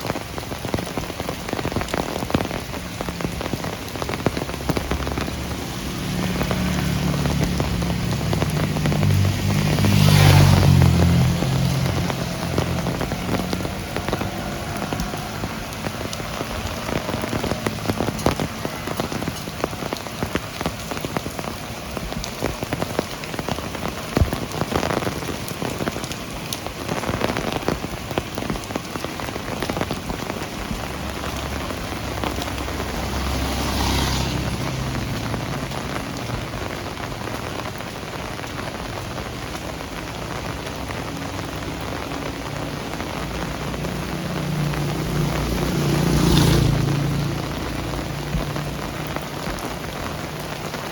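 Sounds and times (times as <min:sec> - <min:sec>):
heavy rain falling: 0:00.0 - 0:50.9
raindrops hitting close by: 0:00.0 - 0:50.9.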